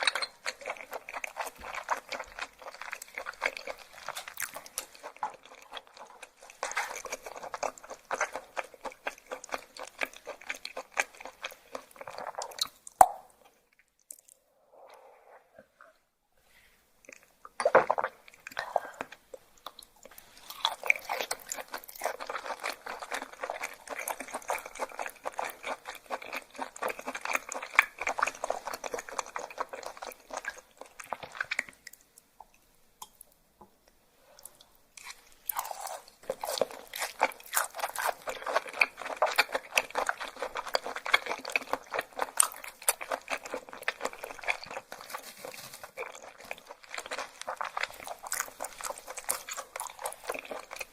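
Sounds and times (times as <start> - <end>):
person chewing crunchily: 0.0 - 14.4, 17.0 - 32.0, 34.3 - 50.9.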